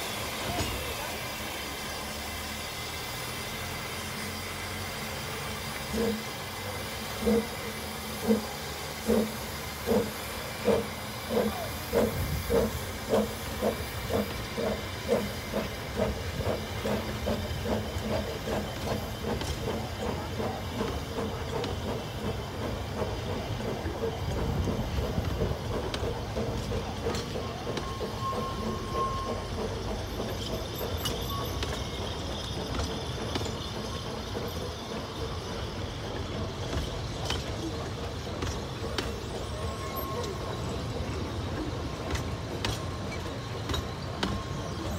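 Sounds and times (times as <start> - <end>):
steam hissing: 0.0 - 44.9
steam locomotive exhaust beats: 0.0 - 44.9.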